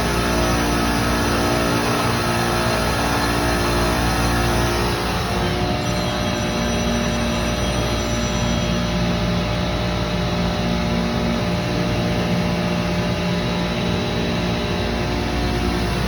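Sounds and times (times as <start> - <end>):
chiller mechanical hum: 0.0 - 16.0.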